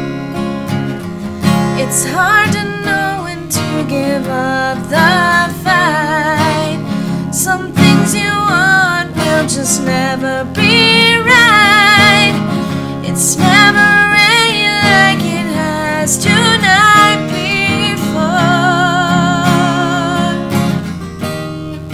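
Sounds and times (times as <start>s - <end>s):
strummed acoustic guitar: 0.0s - 21.9s
person singing with vibrato: 1.4s - 20.5s.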